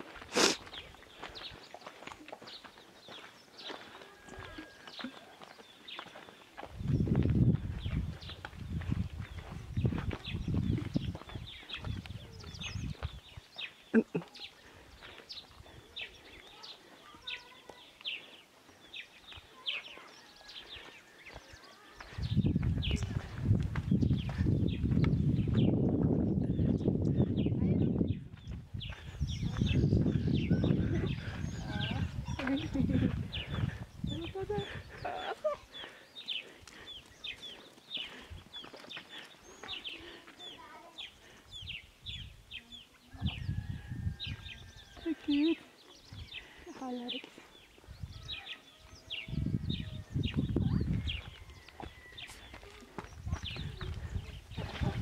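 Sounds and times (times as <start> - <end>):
birds chirping: 0.1 - 55.0.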